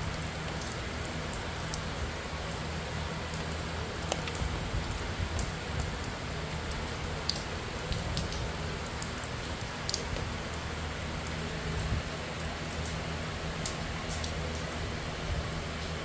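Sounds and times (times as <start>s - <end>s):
drops ticking nearby: 0.0s - 14.8s
heavy rain falling: 0.0s - 16.0s.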